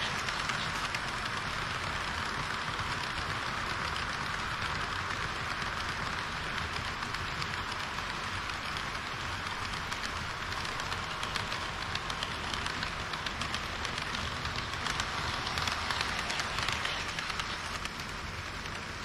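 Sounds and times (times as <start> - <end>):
model train wheels whirring on rail: 0.0 - 19.0
wheels clicking over rail joints: 0.0 - 19.0.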